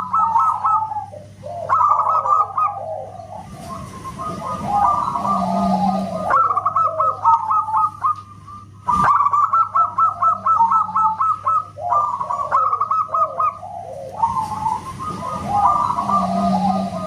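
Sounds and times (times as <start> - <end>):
dove cooing: 0.0 - 17.0
low hum: 0.0 - 17.0.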